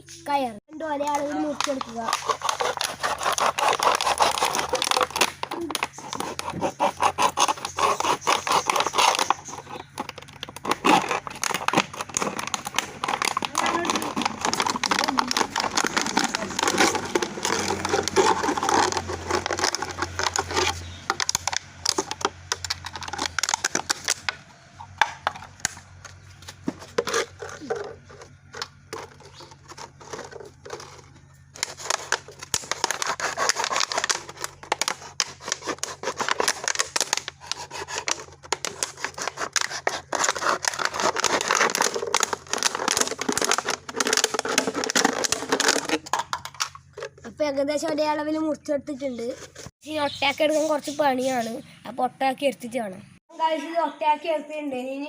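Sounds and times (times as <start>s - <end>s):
plastic bottles crinkling: 0.8s - 47.9s.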